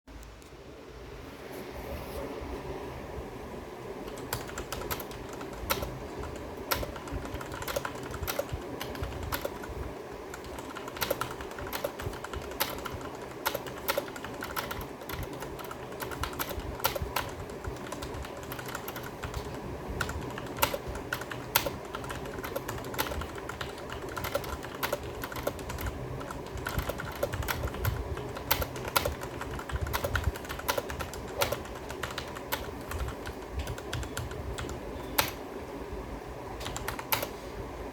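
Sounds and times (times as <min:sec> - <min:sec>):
mechanical keyboard typing: 0:04.1 - 0:35.4, 0:36.6 - 0:37.3.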